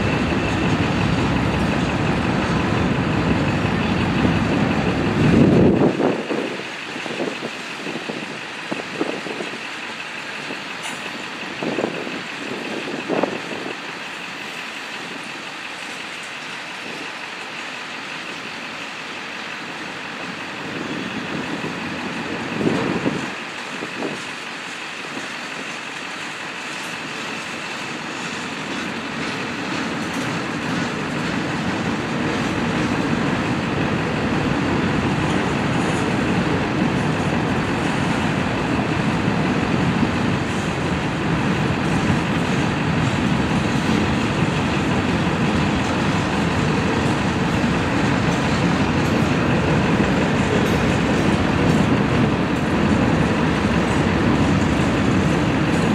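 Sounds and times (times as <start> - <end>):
steel wheels on track: 0.0 - 55.9.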